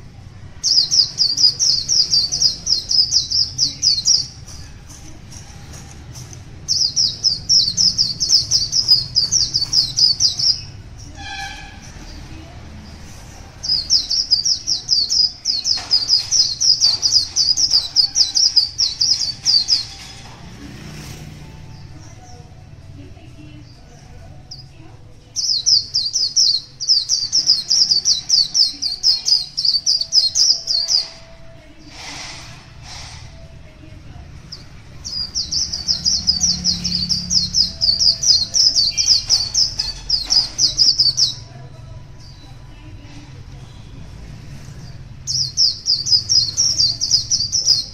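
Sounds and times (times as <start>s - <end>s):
bird chirping: 0.0s - 5.1s, 5.7s - 20.6s, 23.6s - 33.4s, 34.4s - 41.5s, 44.8s - 47.9s.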